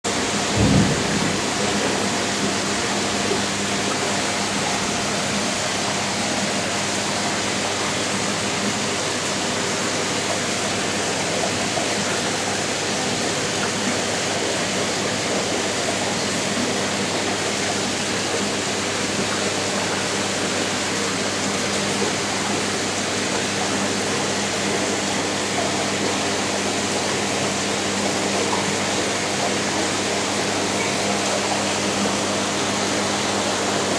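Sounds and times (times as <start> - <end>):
water rushing in aquarium filter: 0.0 - 33.9
low electrical hum: 0.1 - 33.9.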